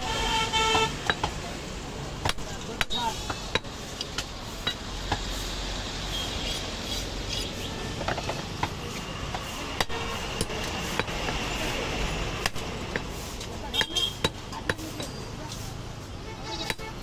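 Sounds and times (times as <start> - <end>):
street market din: 0.0 - 17.0
traffic: 0.0 - 17.0.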